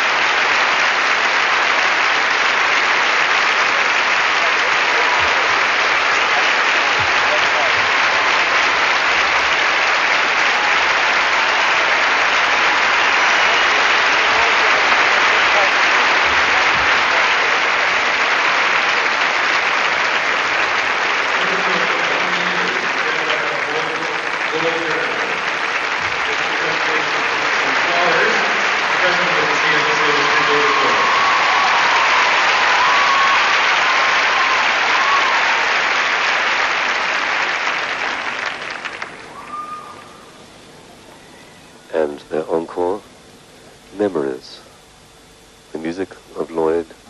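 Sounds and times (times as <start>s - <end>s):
large crowd applauding: 0.0s - 41.4s.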